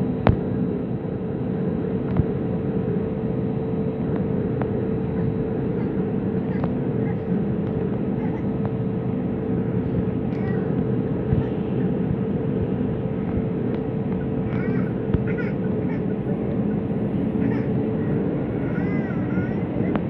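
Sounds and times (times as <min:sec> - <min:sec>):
jet engines running in cabin: 0:00.0 - 0:20.0.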